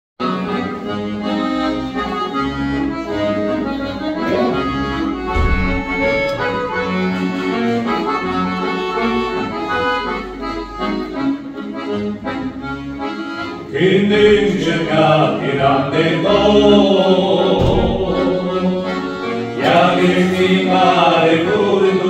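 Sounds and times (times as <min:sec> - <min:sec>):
accordion playing: 0:00.2 - 0:22.0.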